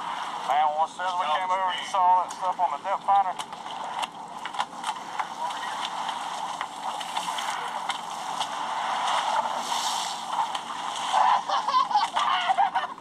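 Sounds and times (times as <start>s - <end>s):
water splashing against boat hull: 0.0s - 13.0s.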